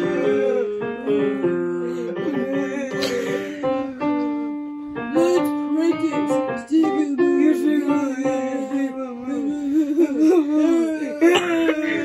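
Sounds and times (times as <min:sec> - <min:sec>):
song with sung melody: 0:00.0 - 0:12.0.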